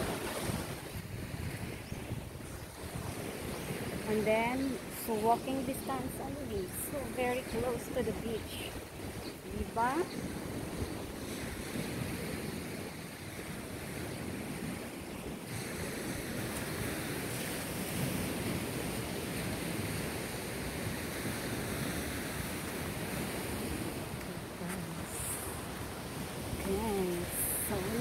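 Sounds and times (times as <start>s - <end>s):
surf washing on a beach: 0.0s - 28.0s
wind rumbling on microphone: 0.0s - 28.0s.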